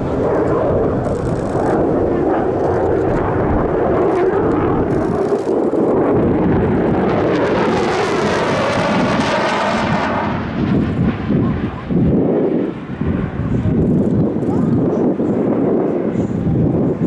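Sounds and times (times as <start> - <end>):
aircraft flying past: 0.0 - 17.0.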